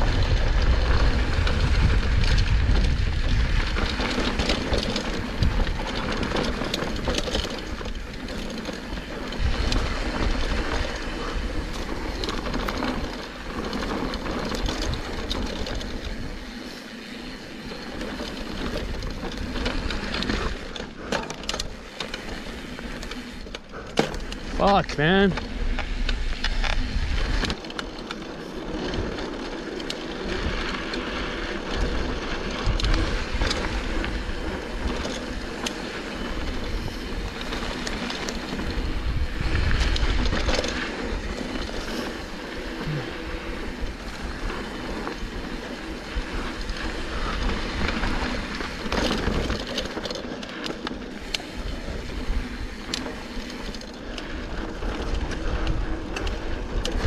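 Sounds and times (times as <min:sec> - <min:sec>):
tyre and wind rushing: 0:00.0 - 0:20.8, 0:24.3 - 0:49.8, 0:51.1 - 0:57.0
bike clicks and rattles: 0:00.0 - 0:57.0.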